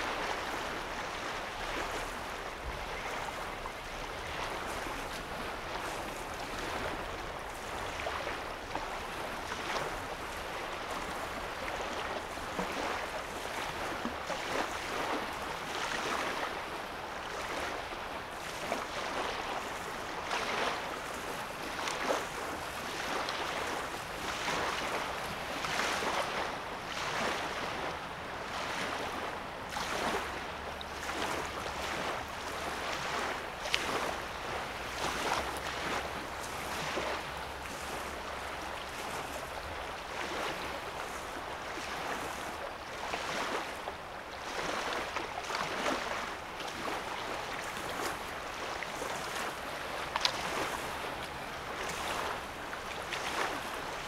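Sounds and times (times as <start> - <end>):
waves lapping on sandy shore: 0.0 - 54.0.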